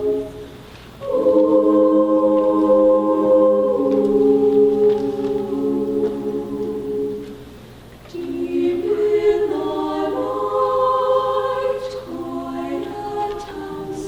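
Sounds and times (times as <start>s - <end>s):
choir singing a cappella: 0.0s - 7.4s, 8.1s - 14.0s.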